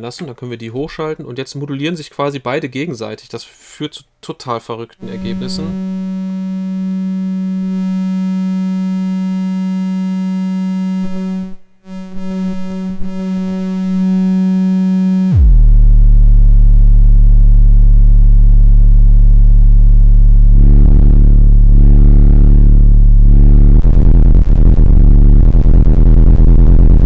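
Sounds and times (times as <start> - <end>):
buzzing synthesizer drone: 5.0 - 27.0
loud deep bass drone: 5.0 - 27.0.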